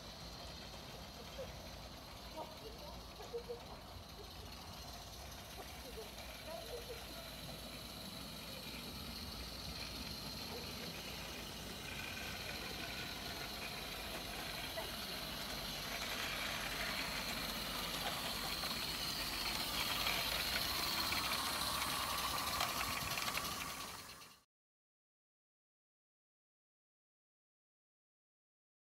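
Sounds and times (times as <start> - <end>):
model train running on track: 0.0 - 24.4
train hiss: 0.0 - 24.4.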